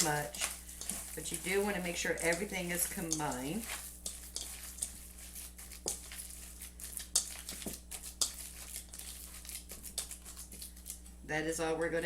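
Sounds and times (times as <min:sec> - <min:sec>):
hands squishing raw meat: 0:00.0 - 0:11.1
faint steady hum: 0:00.0 - 0:12.0.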